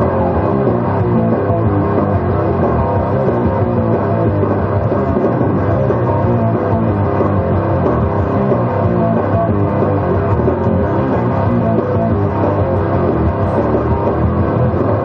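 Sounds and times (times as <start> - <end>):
rock music over loudspeakers: 0.0 - 15.0.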